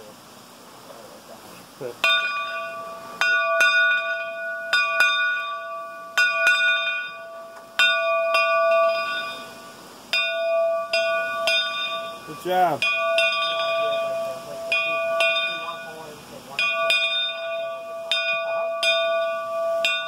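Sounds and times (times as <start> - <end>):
locomotive bell ringing: 1.8 - 20.0.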